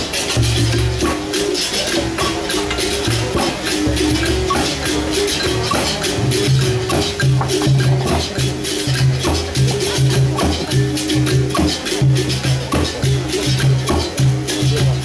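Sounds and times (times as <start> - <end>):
berimbaus playing: 0.0 - 15.0
pandeiro: 0.0 - 15.0
shakers rattling: 0.0 - 15.0.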